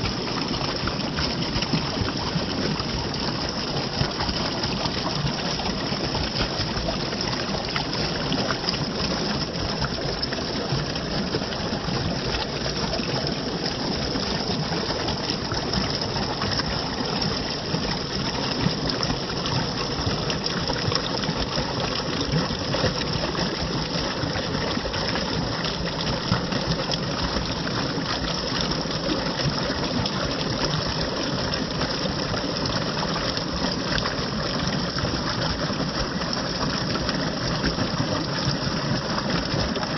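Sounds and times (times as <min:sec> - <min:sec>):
running water gushing: 0:00.0 - 0:39.9.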